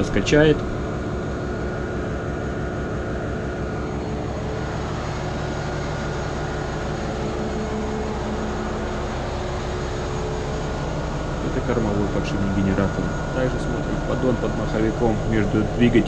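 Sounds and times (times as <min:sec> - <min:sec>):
diesel machinery rumbling: 0:00.0 - 0:16.0
steady hum tones: 0:00.0 - 0:16.0.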